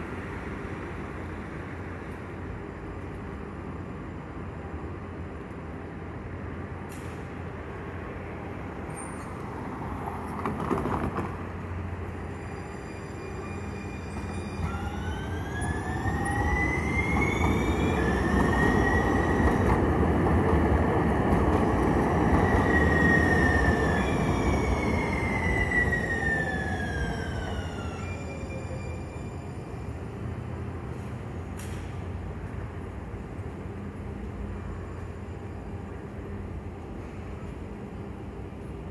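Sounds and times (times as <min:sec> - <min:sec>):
light-rail train passing: 0:00.0 - 0:38.9.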